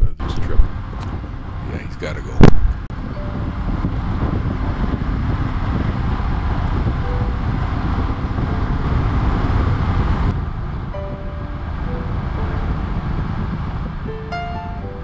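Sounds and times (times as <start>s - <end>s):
wind and road noise: 0.0s - 15.0s
motorcycle engine running: 2.6s - 15.0s.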